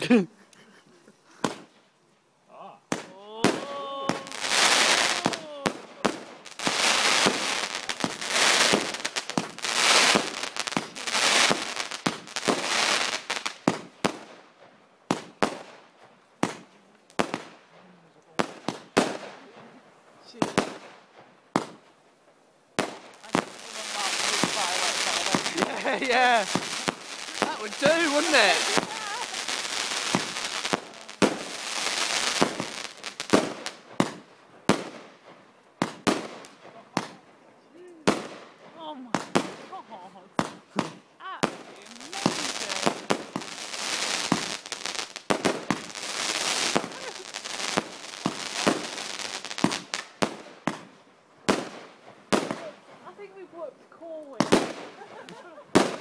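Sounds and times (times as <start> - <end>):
firework crackling hiss: 0.0 - 1.9, 2.9 - 14.4, 22.7 - 37.3, 37.9 - 53.4, 54.3 - 56.0
firework bangs: 1.4 - 1.7, 2.9 - 15.8, 16.4 - 17.6, 18.3 - 22.0, 22.8 - 37.2, 38.0 - 53.2, 54.4 - 56.0.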